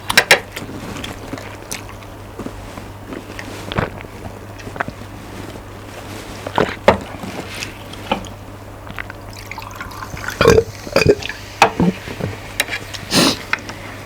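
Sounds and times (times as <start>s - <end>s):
wet eating smacks and slurps: 0.0s - 13.7s
low electrical hum: 0.0s - 14.0s.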